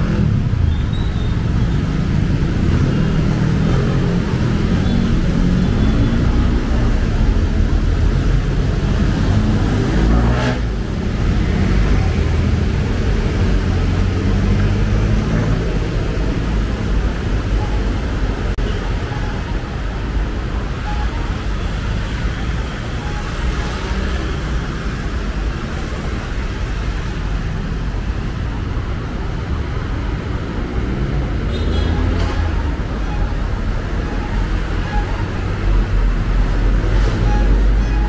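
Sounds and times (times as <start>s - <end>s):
passing road traffic rumble: 0.0s - 38.0s.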